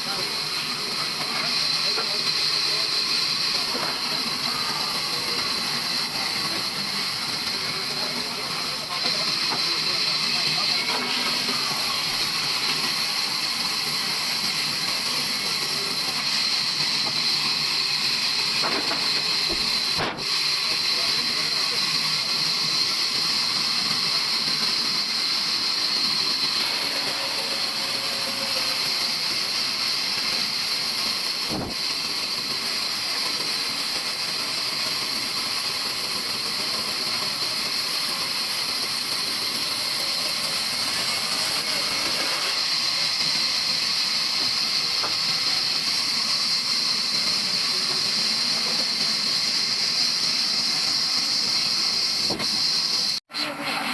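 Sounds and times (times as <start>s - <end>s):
sawmill blade cutting wood: 0.0s - 53.9s.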